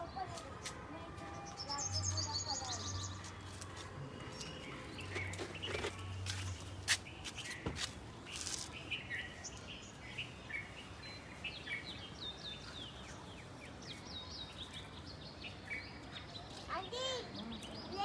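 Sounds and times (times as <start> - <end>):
small birds chirping: 1.4 - 18.0.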